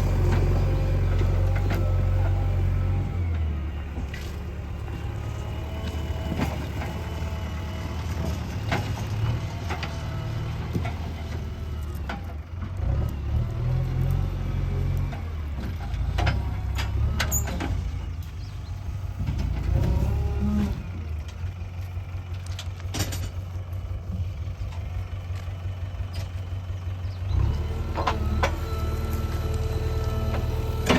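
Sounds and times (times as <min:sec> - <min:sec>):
diesel engine under load: 0:00.0 - 0:30.9.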